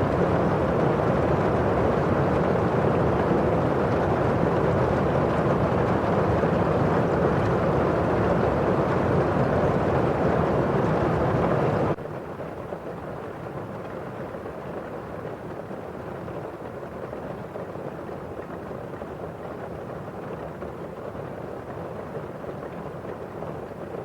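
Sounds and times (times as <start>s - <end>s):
rain on a window pane: 0.0s - 24.0s.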